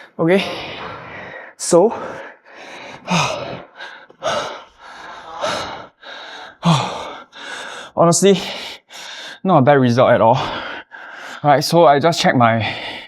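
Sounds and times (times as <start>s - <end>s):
man breathing hard: 0.0s - 9.4s, 10.4s - 11.5s, 12.6s - 13.0s.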